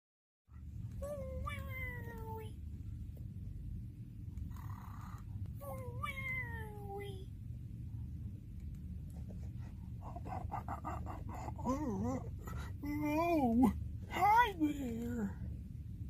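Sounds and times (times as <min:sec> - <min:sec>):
steady low hum: 0:00.5 - 0:16.0.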